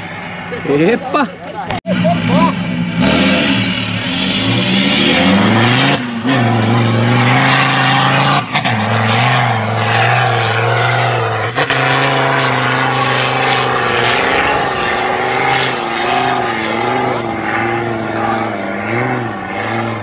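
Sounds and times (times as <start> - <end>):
engine droning at high revs: 0.0 - 20.0.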